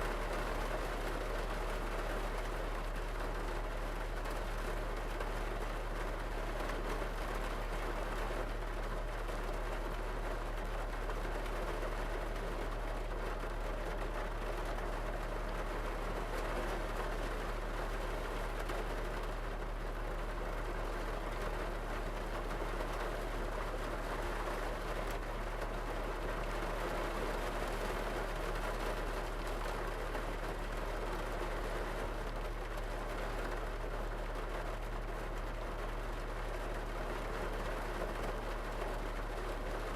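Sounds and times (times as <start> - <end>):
rain pattering on car roof: 0.0 - 39.9.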